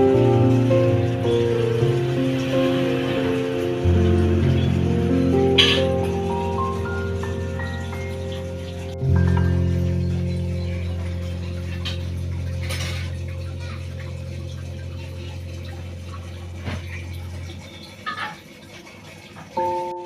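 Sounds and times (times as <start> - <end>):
melodic phrase: 0.0 - 17.5, 19.6 - 20.0.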